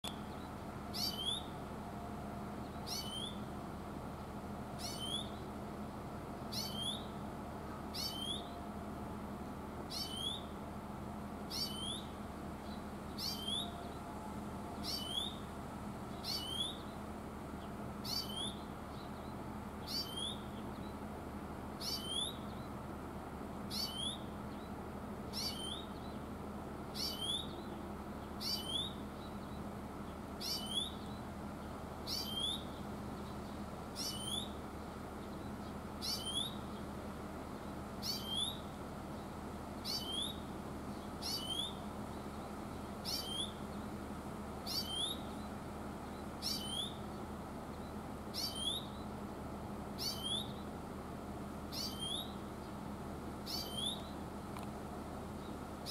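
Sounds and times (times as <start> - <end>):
low background noise: 0.0 - 55.9.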